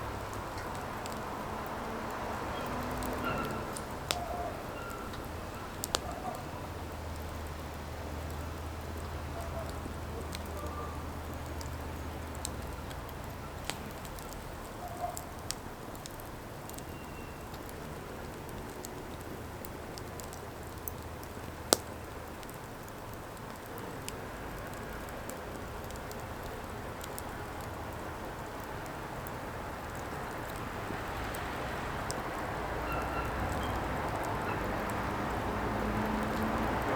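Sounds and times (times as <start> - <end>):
firewood crackling and popping: 0.0 - 36.9.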